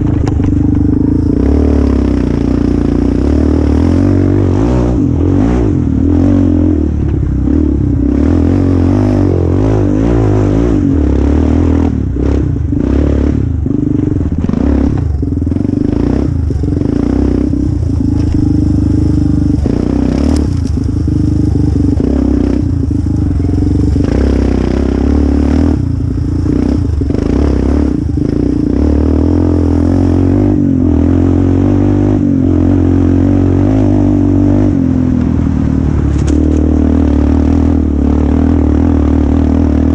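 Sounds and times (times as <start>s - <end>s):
quad engine revving: 0.0s - 35.4s, 36.0s - 39.9s
quad clattering over rough trail: 0.0s - 39.9s.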